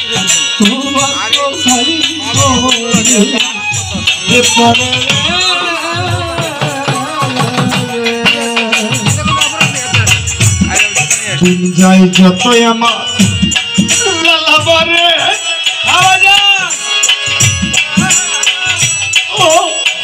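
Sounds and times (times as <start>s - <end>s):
keyboard holding steady notes: 0.0s - 20.0s
rattling percussion beat: 0.0s - 20.0s.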